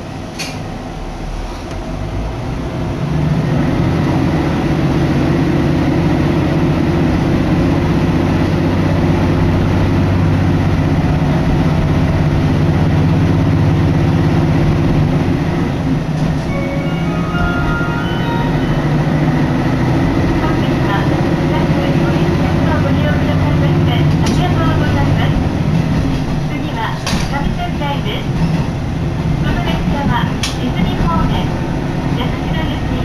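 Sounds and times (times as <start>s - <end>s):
train diesel engine drone: 0.0s - 33.0s.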